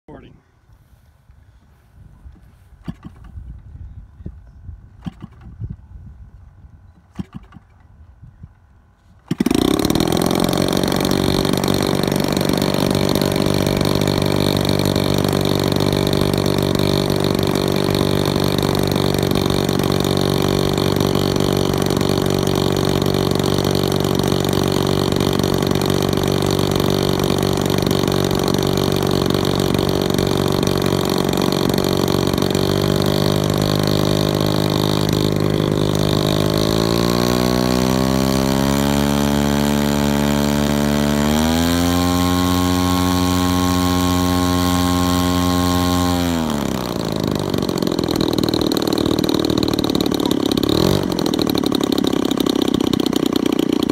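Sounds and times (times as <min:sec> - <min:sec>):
model plane engine idling: 0:09.3 - 0:53.9.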